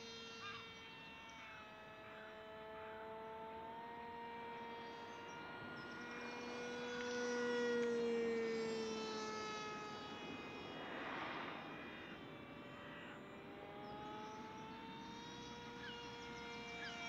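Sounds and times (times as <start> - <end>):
model jet airplane whine: 0.0 - 17.0.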